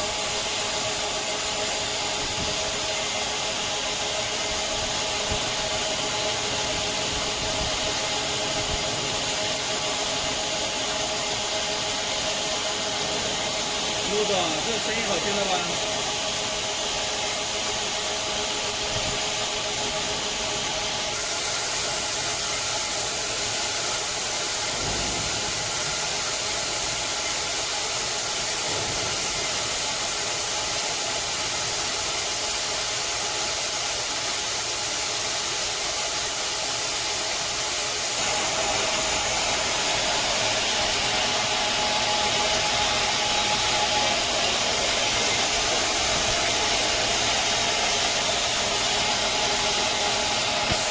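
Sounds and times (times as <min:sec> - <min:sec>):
band saw running: 0:00.0 - 0:32.4, 0:38.0 - 0:50.9.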